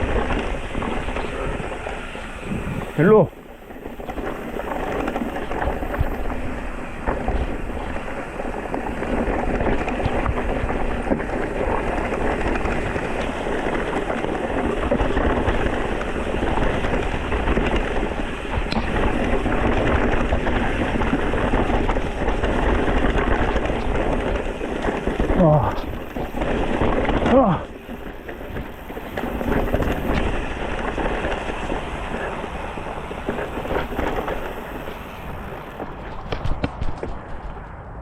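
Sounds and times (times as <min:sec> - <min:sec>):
bike tyre and drivetrain rattle: 0:00.0 - 0:38.0
wind buffeting microphone: 0:00.0 - 0:38.0.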